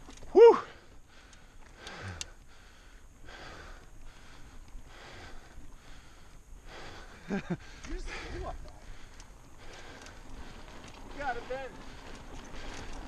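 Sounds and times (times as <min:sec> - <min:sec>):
person breathing hard: 0:00.4 - 0:13.0.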